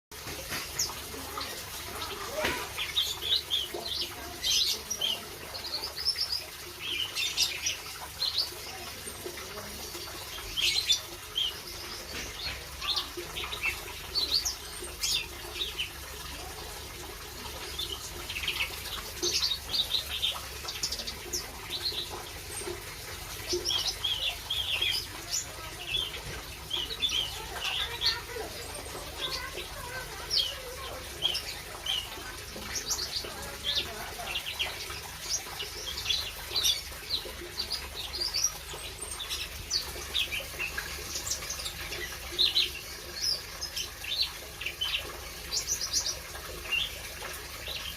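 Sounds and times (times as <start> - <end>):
songbirds chirping: 0.1 - 47.9.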